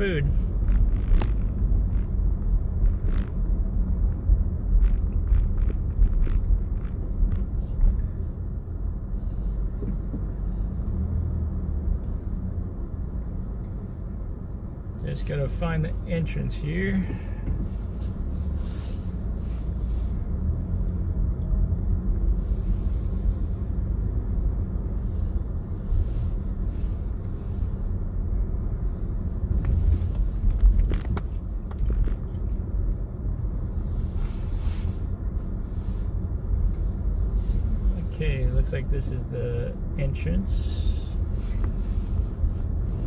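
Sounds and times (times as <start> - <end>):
engine and tyre rumble: 0.0 - 43.0.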